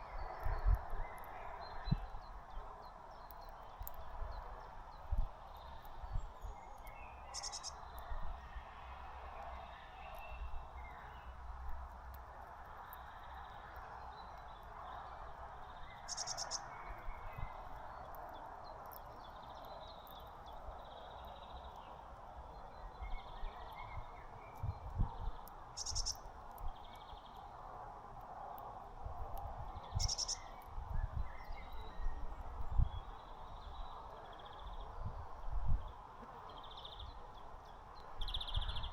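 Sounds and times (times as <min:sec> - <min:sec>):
outdoor background hiss: 0:00.0 - 0:38.9
songbirds chirping: 0:00.0 - 0:38.9.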